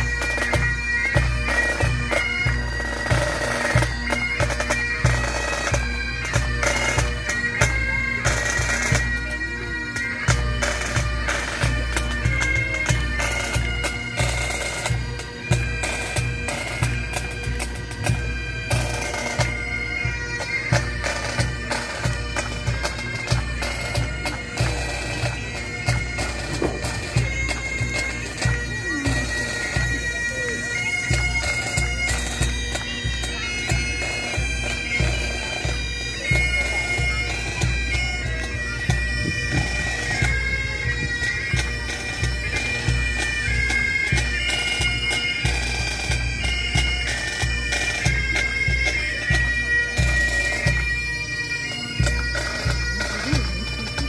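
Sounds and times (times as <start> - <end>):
bagpipes playing a march: 0.0 - 54.0.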